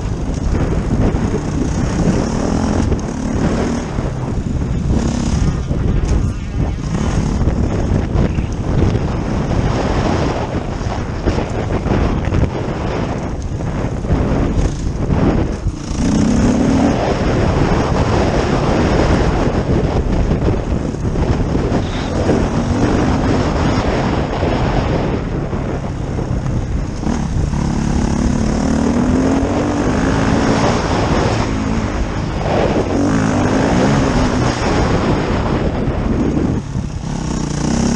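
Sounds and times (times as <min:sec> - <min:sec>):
dirt bike engine revving: 0:00.0 - 0:37.9
wind noise on microphone: 0:00.0 - 0:37.9.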